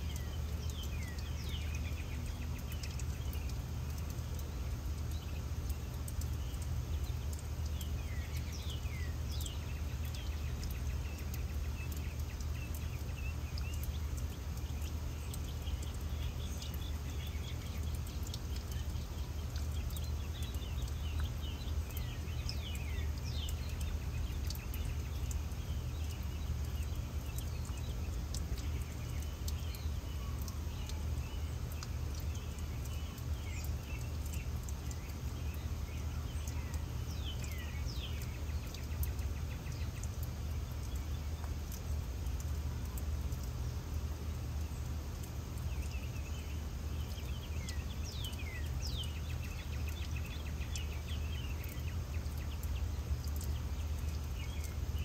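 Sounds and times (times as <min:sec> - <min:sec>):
birds chirping: 0:00.0 - 0:55.0
water fountain running: 0:00.0 - 0:55.0.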